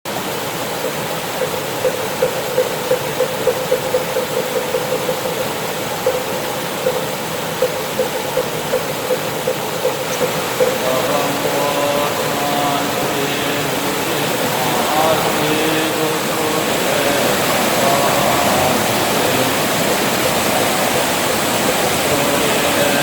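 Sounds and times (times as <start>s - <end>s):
stream rushing over rocks: 0.1s - 23.0s
pitched knocking: 1.4s - 23.0s.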